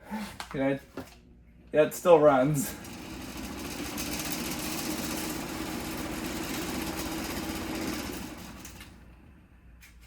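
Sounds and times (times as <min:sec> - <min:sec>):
electric box fan running: 0:00.6 - 0:10.0.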